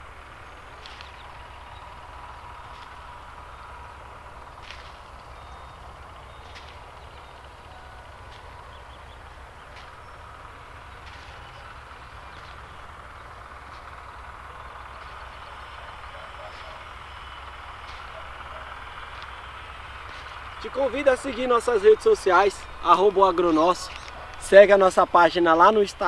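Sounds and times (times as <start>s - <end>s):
low rumble with faint hiss: 0.0s - 26.0s.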